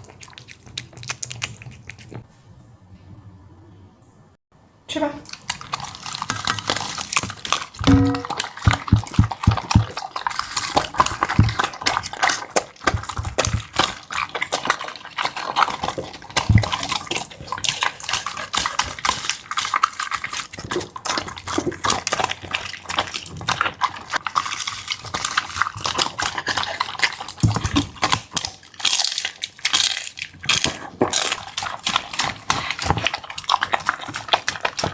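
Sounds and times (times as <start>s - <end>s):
dog chewing and lapping: 0.0s - 2.3s, 5.2s - 34.9s.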